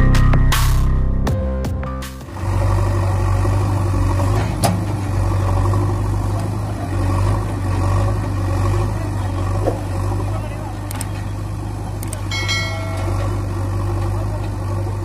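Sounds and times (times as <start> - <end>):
vehicle engine idling: 2.0 - 15.0.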